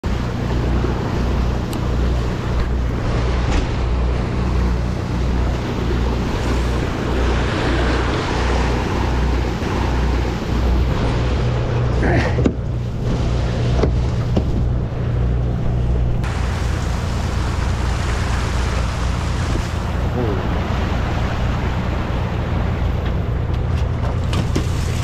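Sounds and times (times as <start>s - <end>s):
boat engine droning: 0.0s - 25.0s
water rushing along hull: 0.0s - 25.0s.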